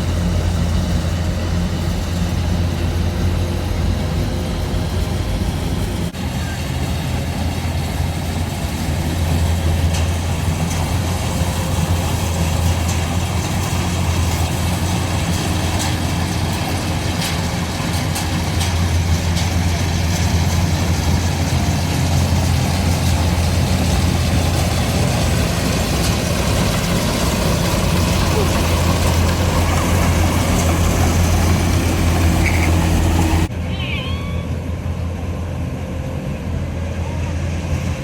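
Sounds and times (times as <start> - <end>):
combine harvester engine humming: 0.0 - 38.0.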